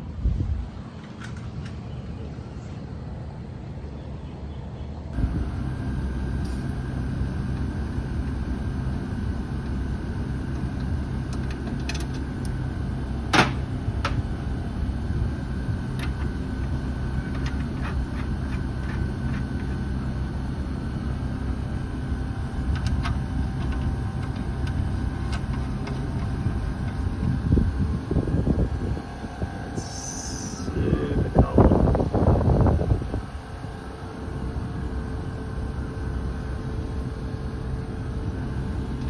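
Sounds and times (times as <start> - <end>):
air conditioner unit humming: 0.0 - 39.0.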